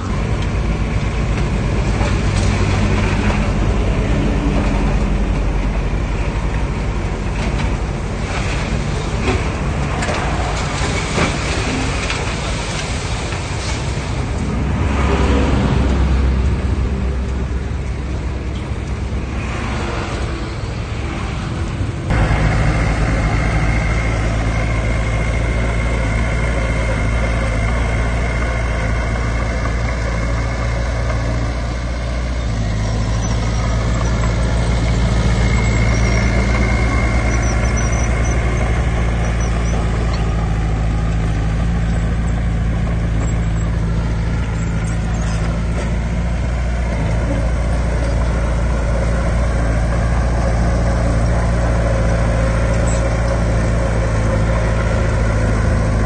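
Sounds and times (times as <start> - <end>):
diesel engine drone with whine: 0.0 - 56.0
heavy diesel machinery rumbling: 0.0 - 56.0.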